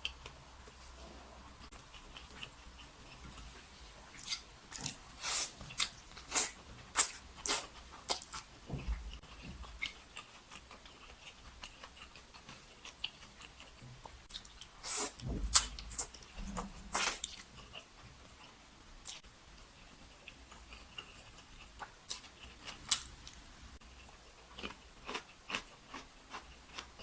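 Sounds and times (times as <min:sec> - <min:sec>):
person chewing and smacking food: 0:01.6 - 0:27.0.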